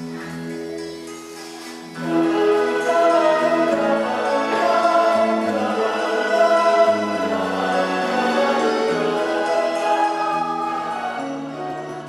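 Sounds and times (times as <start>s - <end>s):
choir singing: 2.0s - 12.0s.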